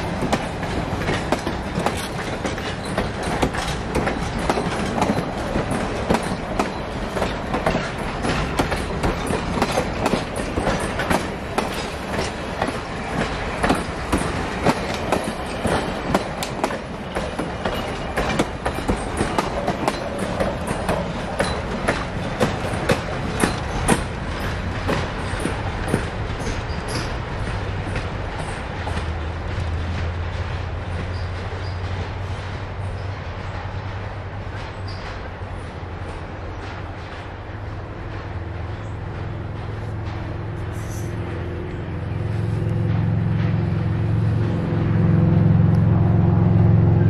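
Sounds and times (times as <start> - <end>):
train wheels clicking over rail joints: 0.0 - 46.0
train rumbling: 0.0 - 47.0.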